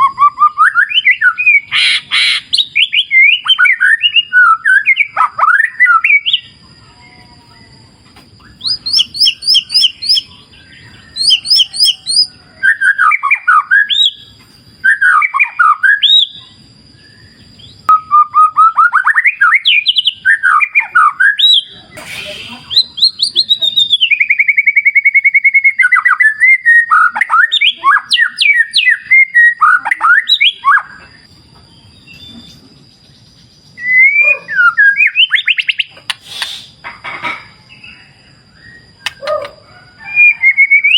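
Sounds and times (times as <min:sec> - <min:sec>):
bird singing whistles and trills: 0:00.0 - 0:36.8, 0:37.7 - 0:40.9.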